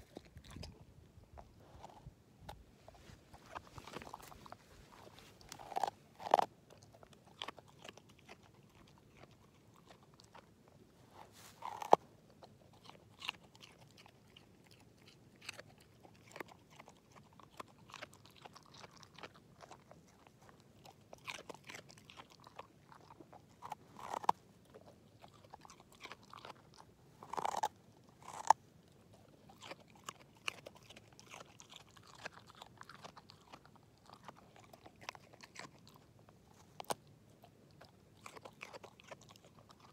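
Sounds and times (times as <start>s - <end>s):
dog crunching a carrot: 0.0s - 39.9s.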